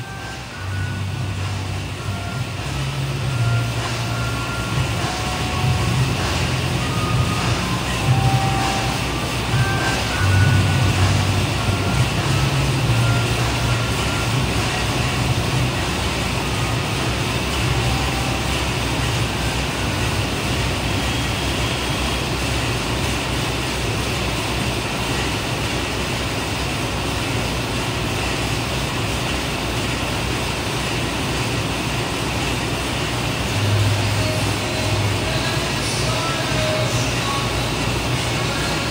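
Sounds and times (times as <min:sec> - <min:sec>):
exercise bike fan whooshing: 0:00.0 - 0:38.9.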